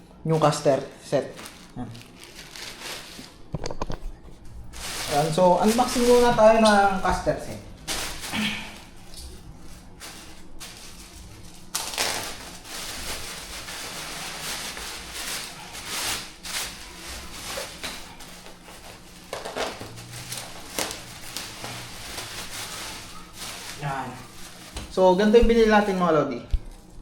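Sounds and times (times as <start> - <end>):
packaging rustling: 0.3 - 27.0.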